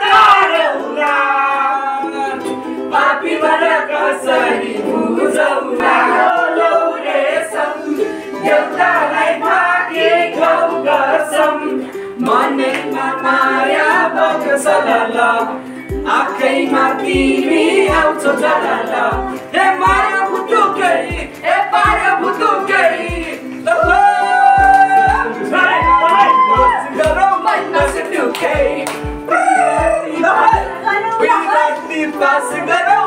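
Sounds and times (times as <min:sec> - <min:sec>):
group of people singing: 0:00.0 - 0:33.0
ukulele strumming: 0:00.0 - 0:33.0.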